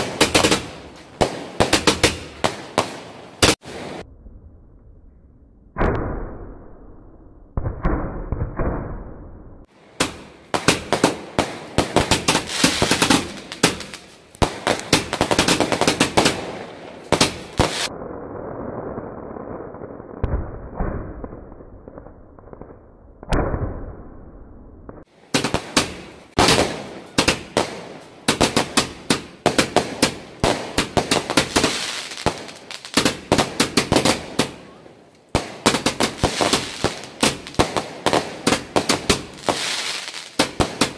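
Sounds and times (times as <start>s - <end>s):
firework launch bangs and cracks: 0.0s - 4.0s, 5.8s - 6.8s, 7.5s - 24.2s, 24.9s - 34.7s, 35.3s - 40.9s.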